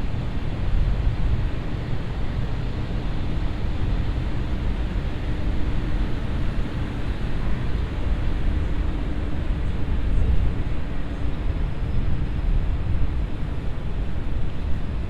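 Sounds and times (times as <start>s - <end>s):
faint engine hum: 0.0s - 15.0s.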